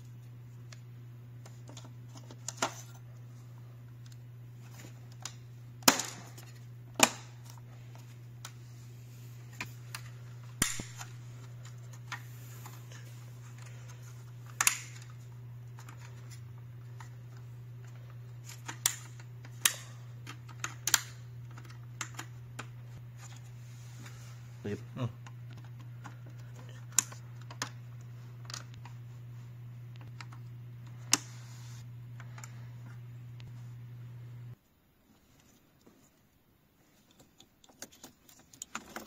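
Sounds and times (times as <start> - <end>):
steady low hum: 0.0 - 37.4.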